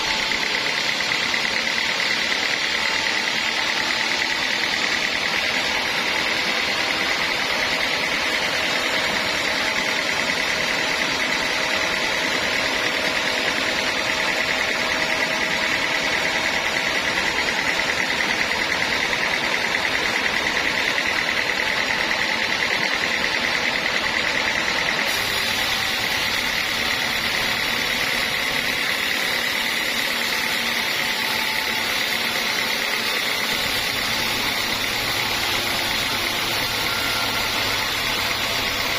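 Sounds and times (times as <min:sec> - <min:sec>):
band sawmill running: 0:00.0 - 0:38.9.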